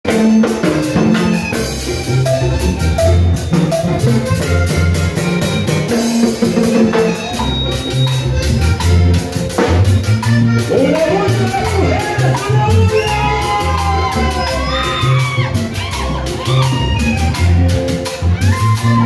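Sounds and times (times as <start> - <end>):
bass line: 0.0 - 19.0
drum kit: 0.0 - 19.0
electric keyboard: 0.0 - 19.0
guitar: 0.0 - 19.0.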